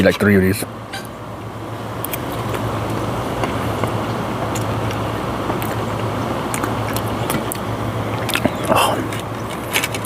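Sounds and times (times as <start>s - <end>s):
constant low hum: 0.0s - 10.0s
low rumbling: 0.6s - 10.0s.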